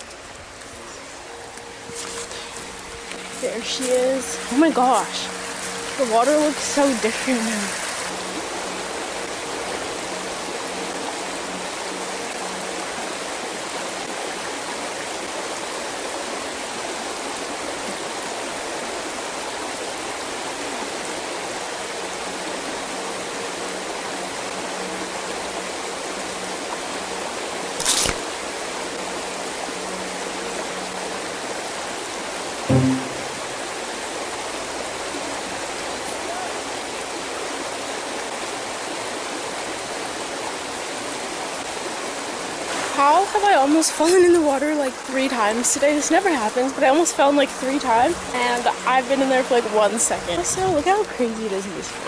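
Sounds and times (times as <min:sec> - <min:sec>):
creek rippling over rocks: 0:00.0 - 0:52.0.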